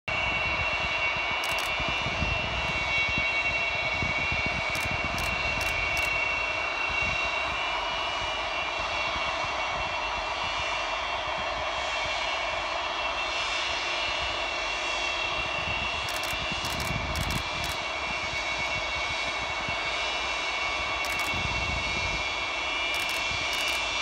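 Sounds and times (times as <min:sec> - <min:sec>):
high engine whine: 0:00.1 - 0:24.0
jet engines rushing noise: 0:00.1 - 0:24.0.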